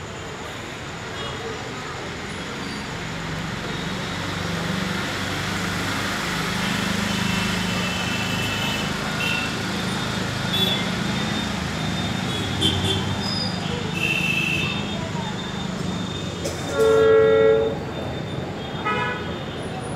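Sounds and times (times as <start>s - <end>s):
diesel locomotive engines droning: 0.0s - 19.9s.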